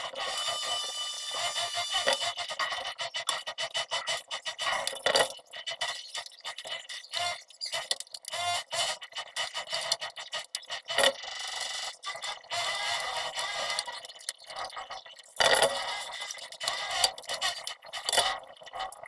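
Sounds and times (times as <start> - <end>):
plastic pipes clacking together: 1.9 - 11.3, 13.0 - 19.0.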